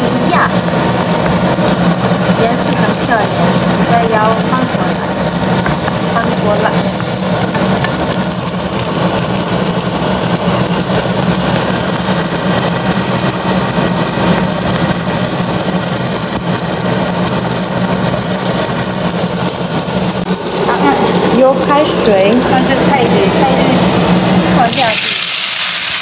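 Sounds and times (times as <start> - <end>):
buns sizzling in hot oil: 0.0 - 26.0
cooktop hum: 0.0 - 26.0.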